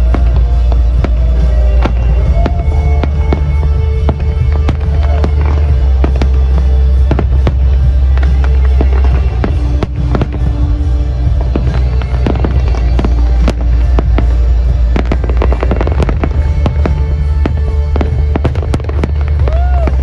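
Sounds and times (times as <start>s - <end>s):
fireworks cracks and bangs: 0.0s - 20.0s
music: 0.0s - 20.0s.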